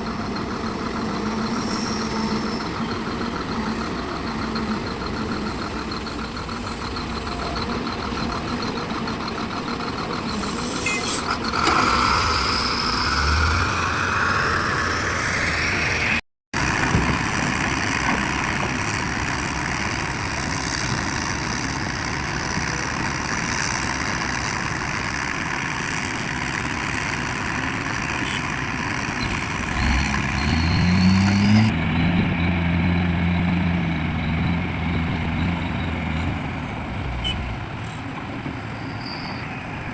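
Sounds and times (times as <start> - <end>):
diesel machinery engine revving: 0.1 - 37.8.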